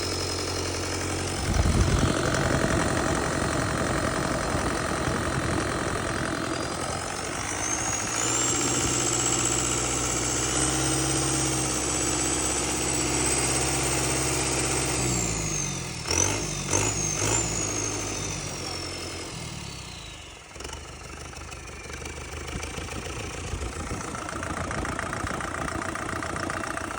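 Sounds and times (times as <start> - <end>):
quieter engine sound: 0.0 - 14.8, 19.6 - 26.9
engine running with high whine: 0.0 - 26.9.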